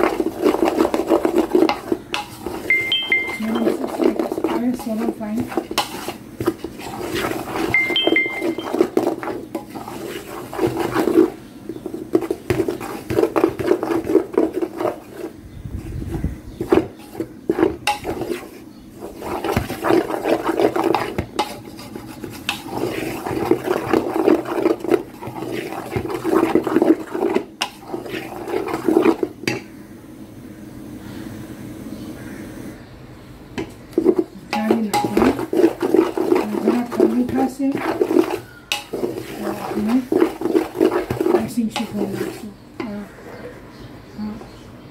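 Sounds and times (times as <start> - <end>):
spatula scraping flour in bowl: 0.0 - 29.6, 33.6 - 43.5.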